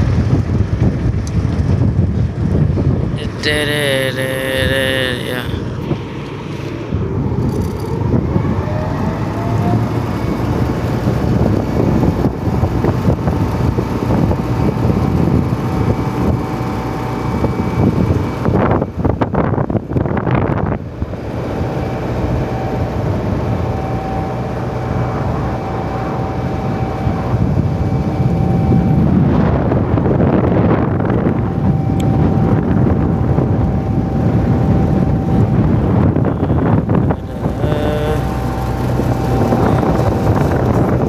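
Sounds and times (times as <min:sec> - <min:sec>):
boat engine drone: 0:00.0 - 0:41.0
wind on microphone: 0:00.0 - 0:41.0
thin steady whine: 0:02.9 - 0:41.0.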